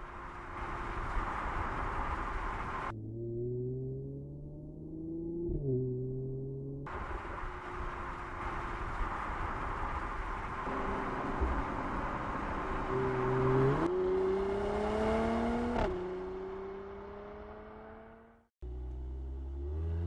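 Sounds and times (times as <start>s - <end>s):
road and tyre noise: 0.0s - 20.0s
car engine revving: 0.4s - 20.0s.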